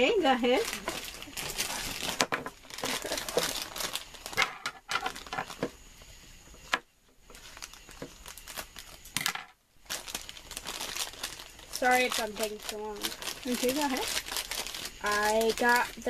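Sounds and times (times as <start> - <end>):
foil bag crinkling: 0.0 - 5.8, 7.2 - 16.0.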